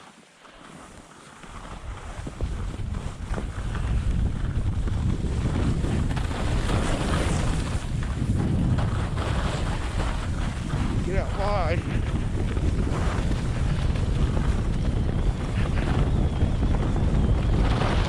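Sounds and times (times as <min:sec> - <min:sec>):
skis scraping on snow: 0:00.0 - 0:18.0
wind buffeting microphone: 0:01.5 - 0:18.0.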